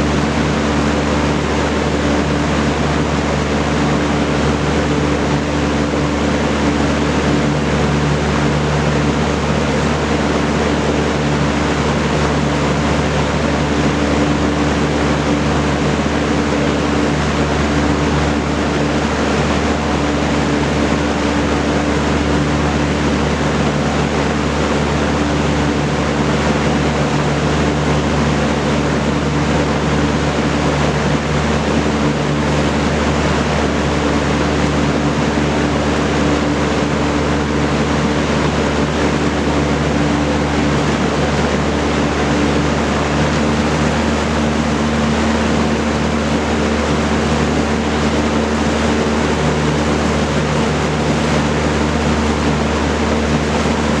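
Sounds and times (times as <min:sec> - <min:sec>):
box fan running: 0:00.0 - 0:54.0.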